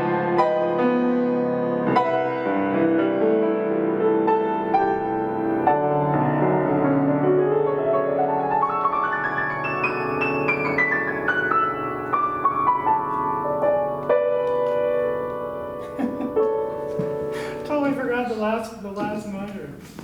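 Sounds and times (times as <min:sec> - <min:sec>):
solo piano: 0:00.0 - 0:18.3.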